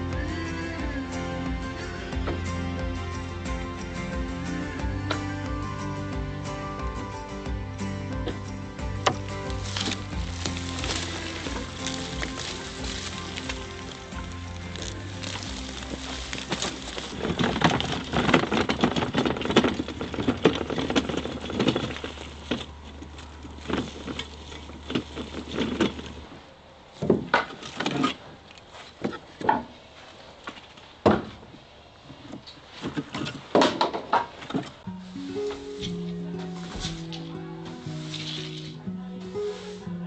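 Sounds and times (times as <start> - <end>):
firewood logs clattering: 6.8 - 39.9.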